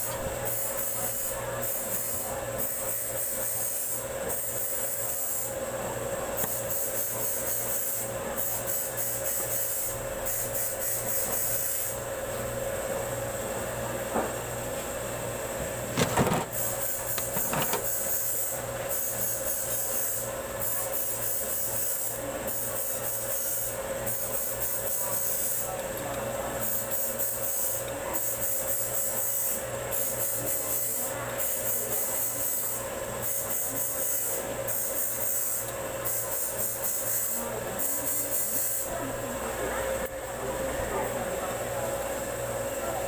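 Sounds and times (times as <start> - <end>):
background hum and hiss: 0.0 - 43.0.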